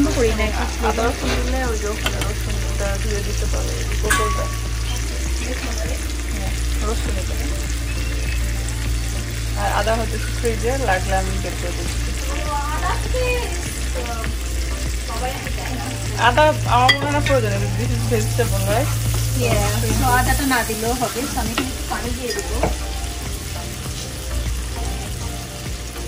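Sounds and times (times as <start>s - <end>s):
curry sizzling in a pan: 0.0s - 26.0s
stirring in a pan: 0.0s - 26.0s.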